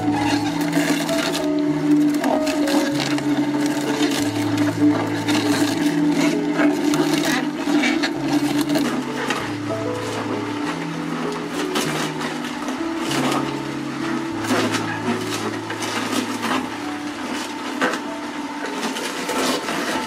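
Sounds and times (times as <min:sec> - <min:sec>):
juicer crushing vegetables: 0:00.0 - 0:20.0.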